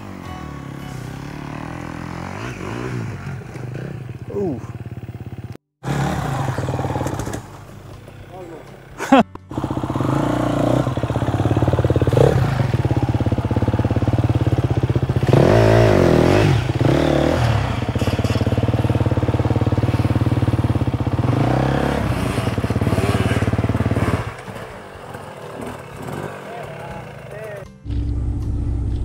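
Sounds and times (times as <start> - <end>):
dirt bike engines revving: 1.0 - 27.6.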